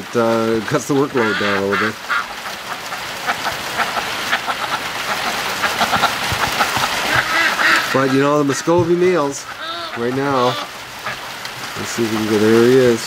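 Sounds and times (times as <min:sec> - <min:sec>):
heavy rain pouring: 0:00.0 - 0:13.0
faint duck calls: 0:00.9 - 0:12.6.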